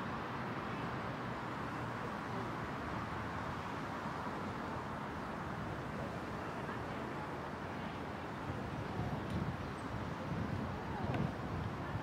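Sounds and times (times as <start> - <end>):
distant traffic rumble and hiss: 0.0 - 12.0.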